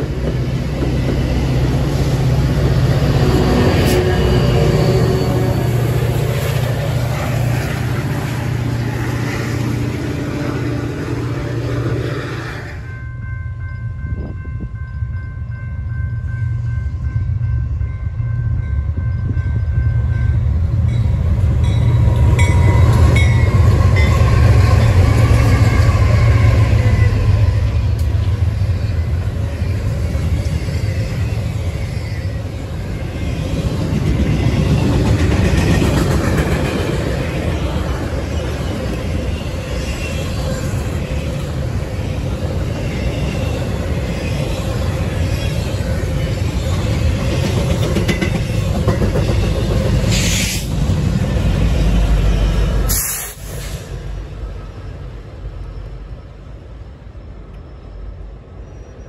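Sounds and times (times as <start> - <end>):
diesel locomotive engine rumble: 0.0 - 59.0
train rumbling past: 0.0 - 59.0.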